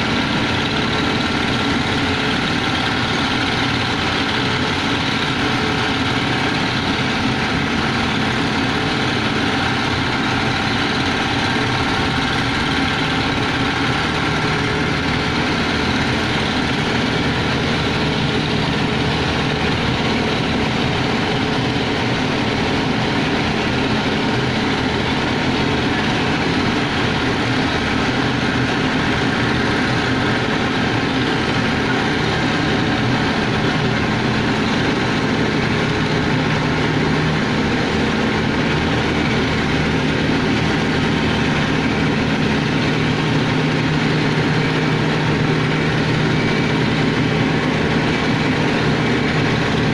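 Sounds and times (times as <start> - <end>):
large engine running: 0.0 - 49.9.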